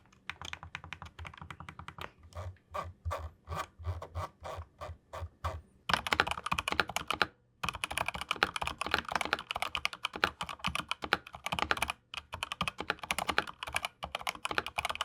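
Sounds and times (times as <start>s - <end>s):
mechanical keyboard typing: 0.0s - 4.9s, 5.9s - 15.0s.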